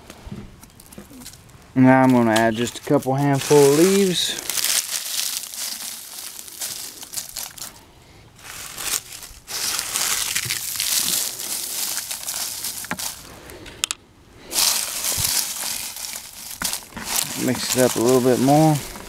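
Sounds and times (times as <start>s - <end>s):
dry leaves crackling in bucket: 0.7s - 13.6s, 14.5s - 19.0s.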